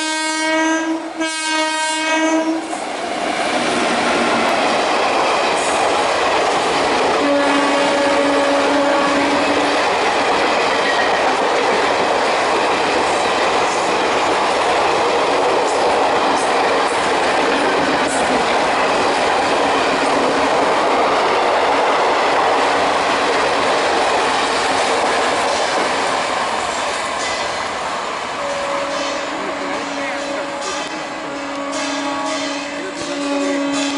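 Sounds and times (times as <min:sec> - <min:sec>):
train passing at speed: 0:00.0 - 0:33.9.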